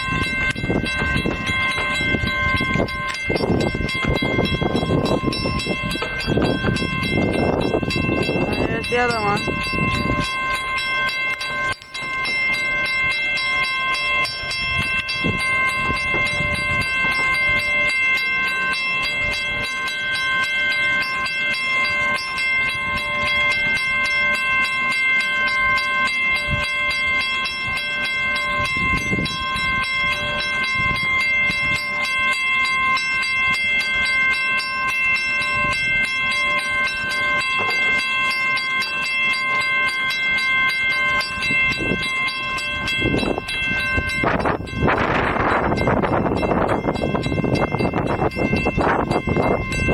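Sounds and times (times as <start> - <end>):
electric train equipment whine: 0.0 - 49.9.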